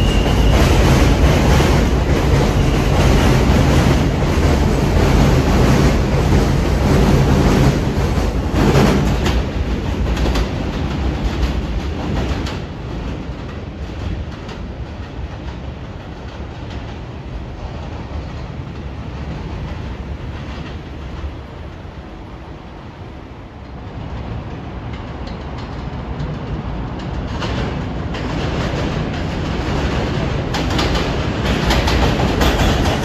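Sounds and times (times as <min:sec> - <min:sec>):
train wheels clicking over rail joints: 0:00.0 - 0:21.4, 0:24.6 - 0:33.0.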